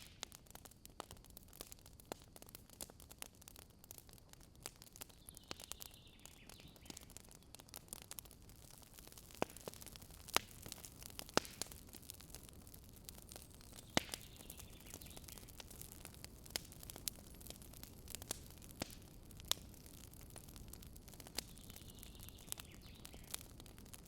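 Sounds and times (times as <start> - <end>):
burning wood popping: 0.0 - 24.0
campfire crackling: 0.0 - 24.0.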